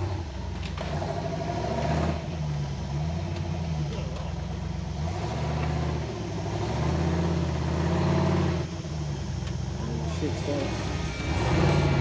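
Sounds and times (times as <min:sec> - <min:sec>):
vehicle engine revving under load: 0:00.0 - 0:12.0.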